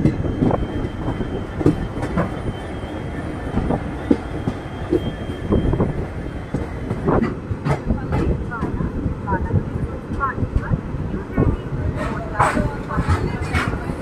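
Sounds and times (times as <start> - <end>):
train wheels clattering over rails: 0.0 - 9.0, 10.0 - 14.0
train running rumble: 0.0 - 14.0.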